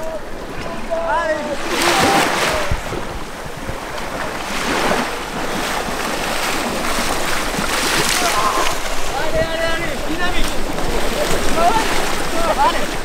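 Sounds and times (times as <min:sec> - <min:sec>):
people wading and splashing: 0:00.0 - 0:13.0
wind buffeting microphone: 0:00.0 - 0:13.0.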